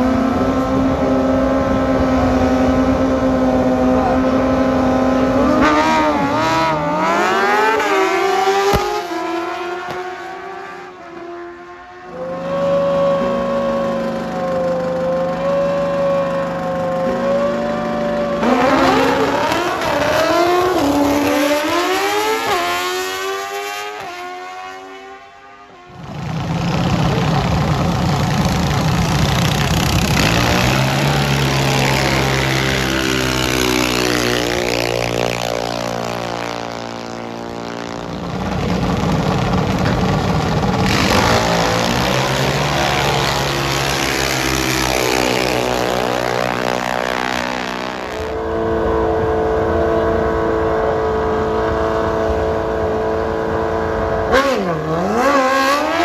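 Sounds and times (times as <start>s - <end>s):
drag-race engine accelerating: 0.0s - 56.0s
drag-race engines running loud: 0.0s - 56.0s.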